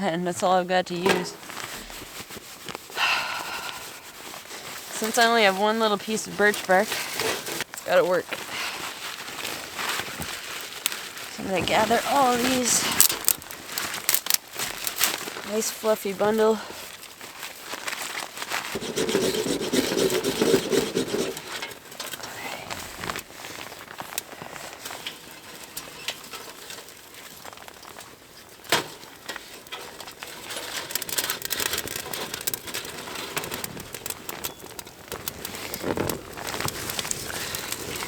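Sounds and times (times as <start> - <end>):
kindling fire crackling and snapping: 0.3 - 38.0.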